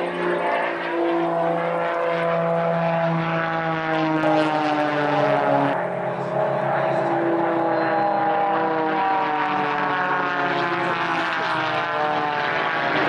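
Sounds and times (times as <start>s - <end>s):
propeller aircraft engine passing: 0.0s - 13.0s.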